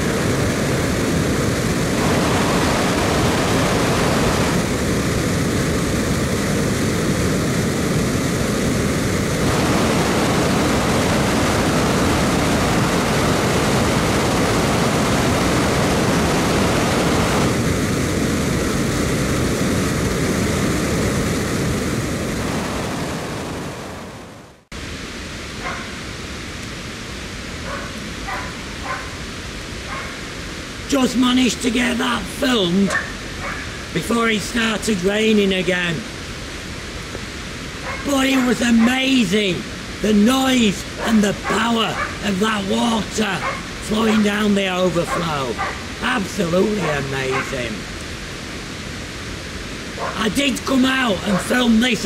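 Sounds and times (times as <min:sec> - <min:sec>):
water rushing through spillway: 0:00.0 - 0:24.2, 0:24.8 - 0:52.0.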